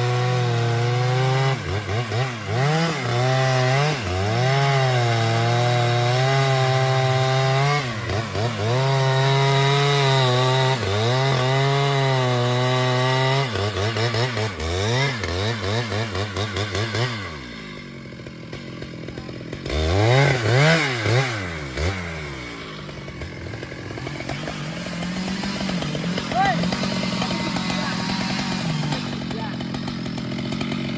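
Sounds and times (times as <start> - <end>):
chainsaw revving: 0.0 - 30.9.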